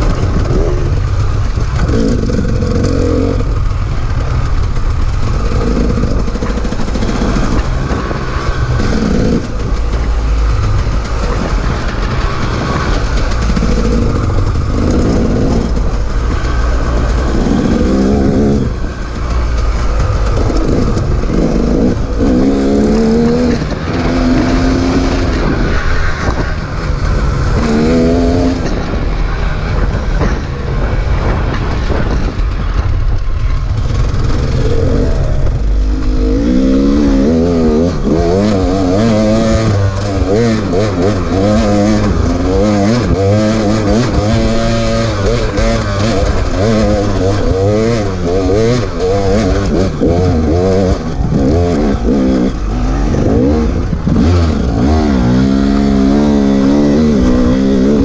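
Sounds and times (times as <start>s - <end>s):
dirt bike engine revving: 0.0s - 32.6s, 33.5s - 58.0s.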